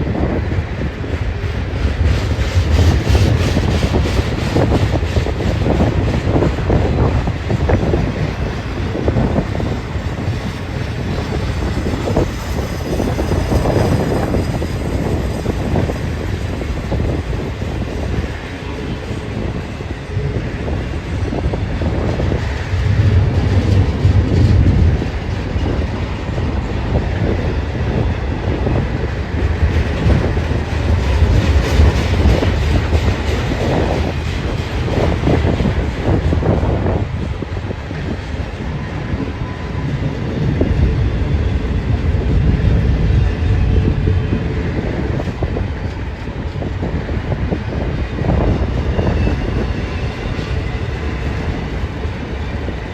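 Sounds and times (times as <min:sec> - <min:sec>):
train cars rumbling and clacking: 0:00.0 - 0:52.9.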